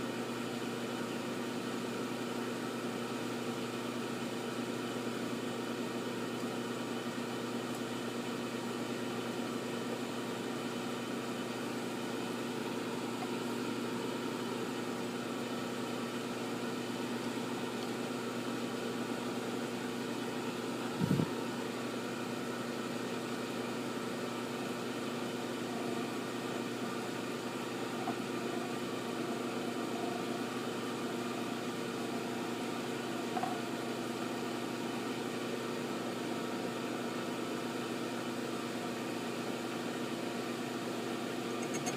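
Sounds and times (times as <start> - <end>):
milling machine humming: 0.4 - 41.9.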